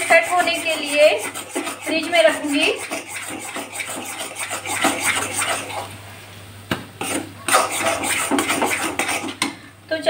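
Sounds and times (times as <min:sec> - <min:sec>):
metal spoon scraping a pan: 0:00.0 - 0:06.0, 0:07.0 - 0:09.5.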